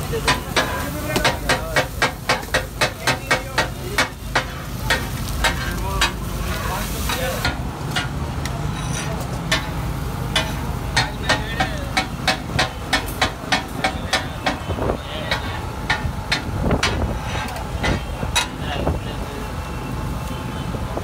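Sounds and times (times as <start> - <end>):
metal spatulas clanging on griddle: 0.0 - 18.6
hot pan sizzling: 0.0 - 20.4.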